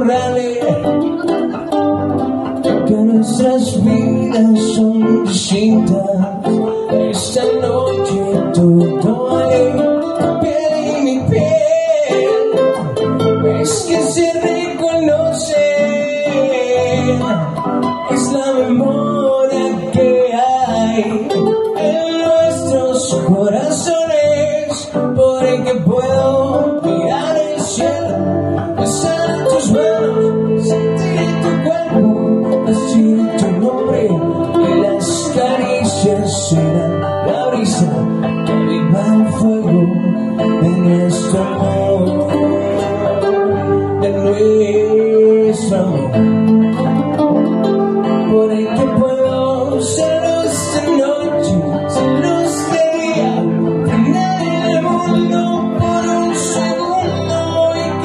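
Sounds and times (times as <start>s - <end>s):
person singing: 0.0s - 58.0s
strummed acoustic guitar: 0.0s - 58.0s.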